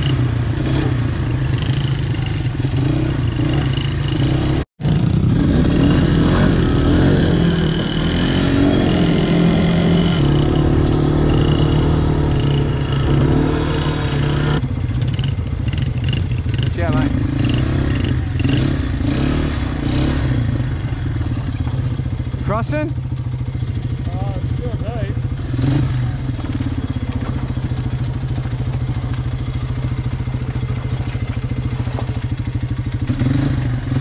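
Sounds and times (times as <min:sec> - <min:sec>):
motorbike engine running: 0:00.0 - 0:34.0.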